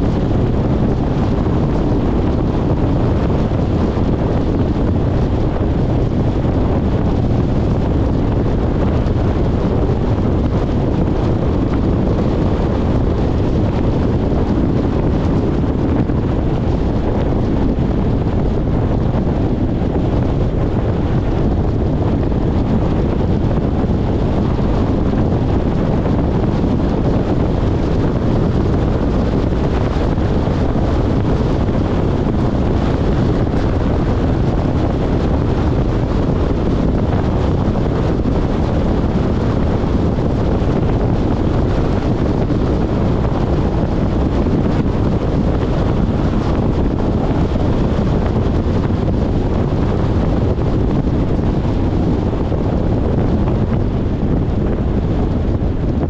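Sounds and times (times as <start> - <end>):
road vehicle driving rumble: 0.0 - 56.0
wind buffeting microphone: 0.0 - 56.0.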